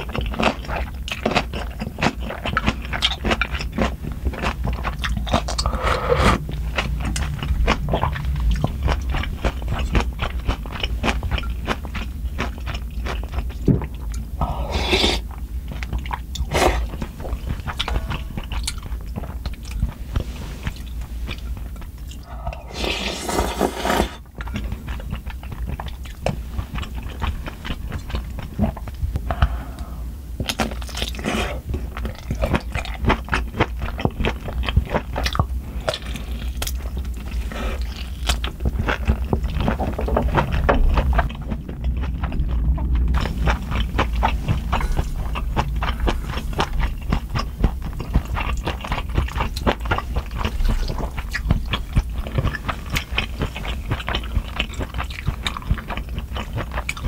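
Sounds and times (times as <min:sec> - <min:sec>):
wet chewing clicks: 0:00.0 - 0:14.6, 0:15.2 - 0:22.7, 0:24.3 - 0:57.0.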